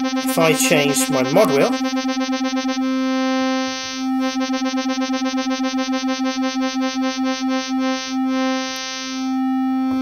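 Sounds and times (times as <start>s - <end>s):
synthesizer note pulsing: 0.0s - 8.6s.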